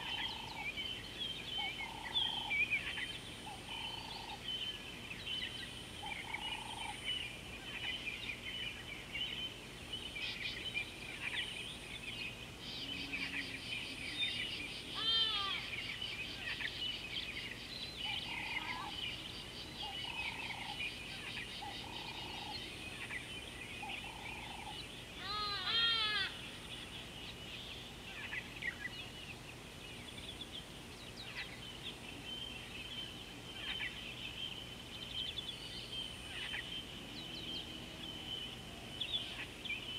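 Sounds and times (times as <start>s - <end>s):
rapid repeated bird calls: 0.0s - 39.9s.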